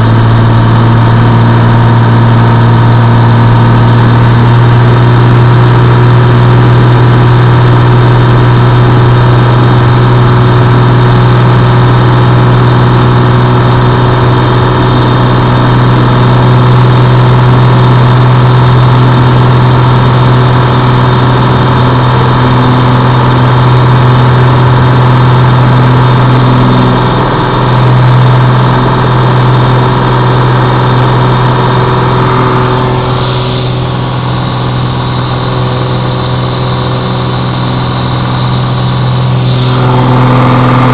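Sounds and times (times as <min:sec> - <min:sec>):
aircraft engine drone: 0:00.0 - 0:40.9.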